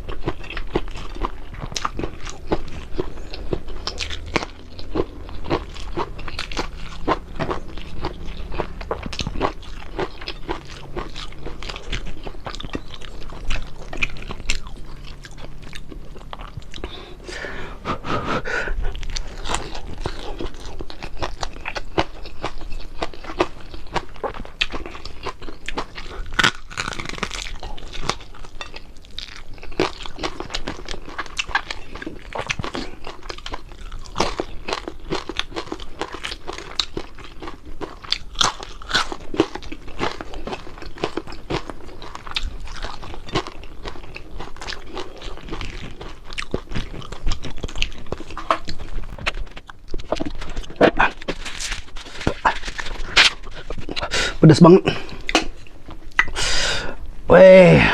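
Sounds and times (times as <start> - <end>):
person chewing crispy food: 0.0 - 57.8.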